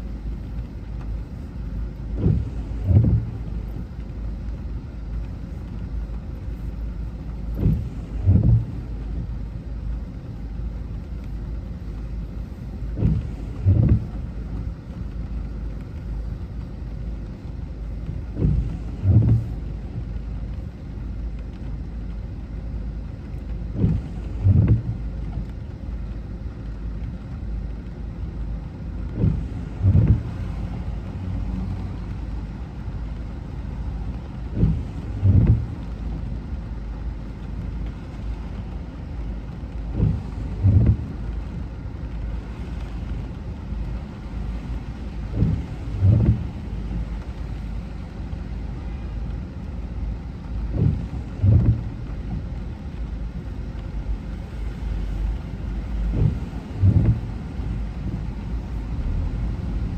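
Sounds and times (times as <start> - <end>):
car road and engine rumble: 0.0 - 59.9
windscreen wiper thumps: 0.0 - 59.9.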